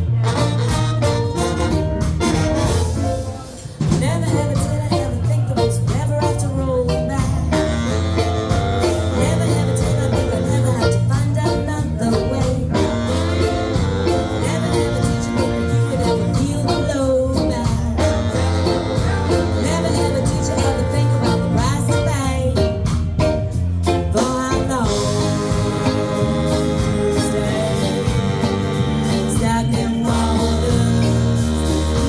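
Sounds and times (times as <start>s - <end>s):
live band playing blues: 0.0s - 32.0s
person singing: 2.7s - 22.9s, 23.9s - 32.0s.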